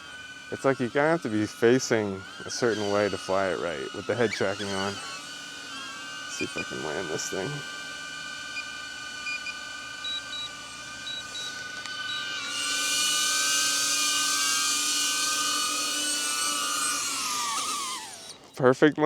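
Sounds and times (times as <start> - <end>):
drone propellers whining: 0.0 - 18.7.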